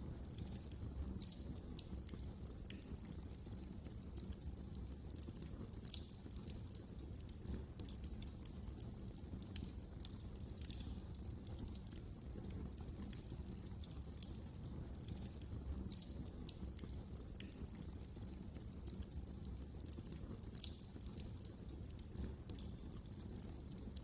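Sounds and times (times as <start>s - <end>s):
low rumble of burning: 0.0s - 24.0s
wood fire crackling: 0.0s - 24.0s.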